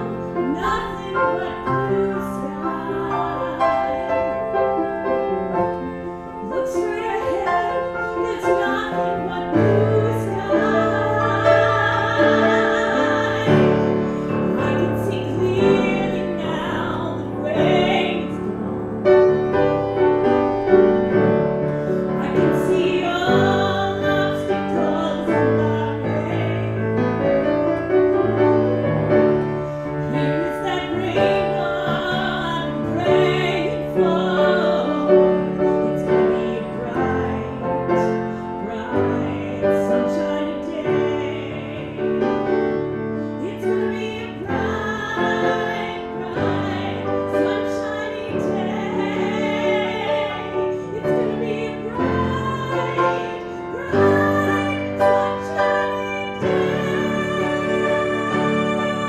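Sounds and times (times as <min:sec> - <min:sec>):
woman singing: 0:00.0 - 0:20.7, 0:22.1 - 0:27.0, 0:30.0 - 0:42.6, 0:43.4 - 0:59.0
piano accompaniment: 0:00.0 - 0:59.0.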